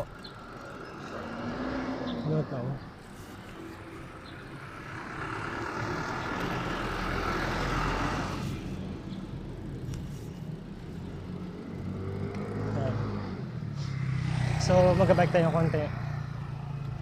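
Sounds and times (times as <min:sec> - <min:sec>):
motor vehicle passing: 0:00.0 - 0:17.0
road and traffic noise: 0:00.0 - 0:17.0.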